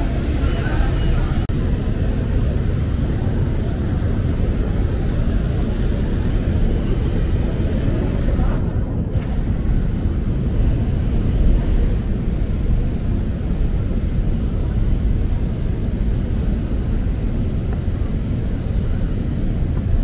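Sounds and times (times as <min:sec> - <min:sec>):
city street rumble: 0:00.0 - 0:20.0.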